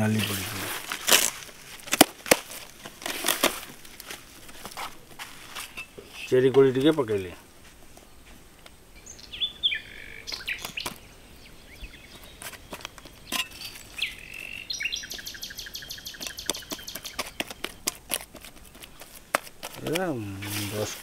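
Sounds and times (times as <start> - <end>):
birds chirping: 0.0 - 0.8, 3.7 - 21.0.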